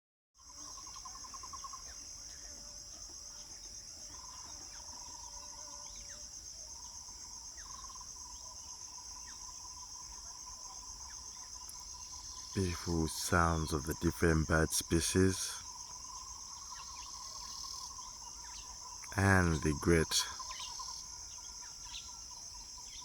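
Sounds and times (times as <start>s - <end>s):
high-pitched insect chorus trilling: 0.4s - 23.0s.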